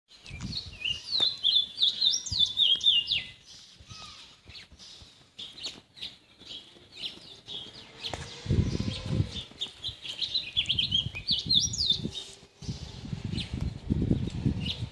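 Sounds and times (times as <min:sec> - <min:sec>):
birds chirping: 0:00.1 - 0:14.9.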